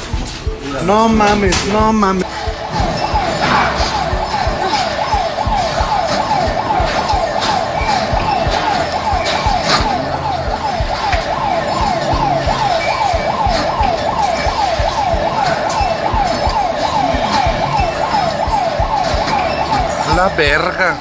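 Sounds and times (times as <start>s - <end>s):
alert siren wailing: 0.0s - 21.0s.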